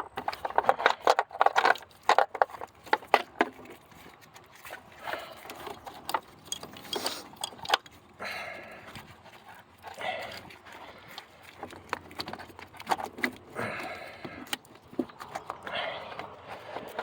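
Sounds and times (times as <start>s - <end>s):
wiring rustling and scraping: 0.0s - 17.0s.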